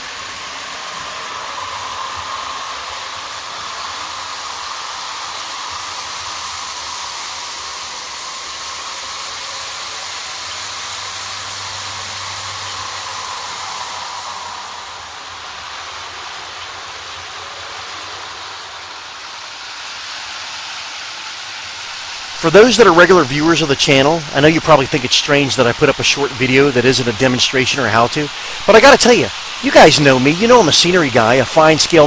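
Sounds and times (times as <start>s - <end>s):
model trains whirring on rails: 0.0s - 32.0s.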